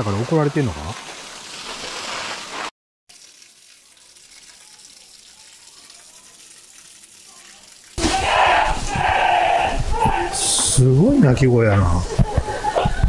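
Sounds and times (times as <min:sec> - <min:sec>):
water gushing: 0:00.0 - 0:13.0.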